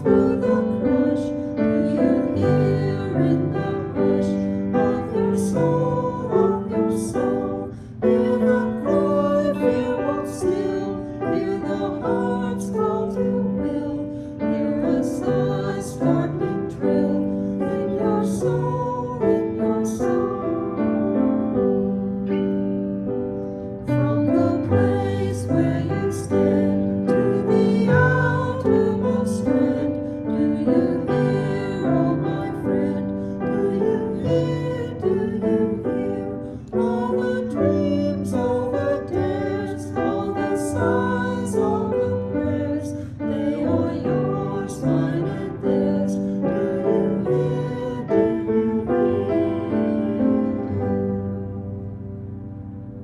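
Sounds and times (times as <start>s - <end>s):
small group singing a hymn: 0.0s - 52.6s
piano accompaniment: 0.0s - 53.0s.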